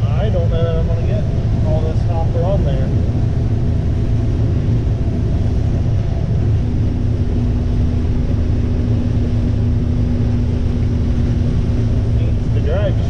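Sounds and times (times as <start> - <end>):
combine harvester drone: 0.0 - 13.0
constant hum: 0.0 - 13.0.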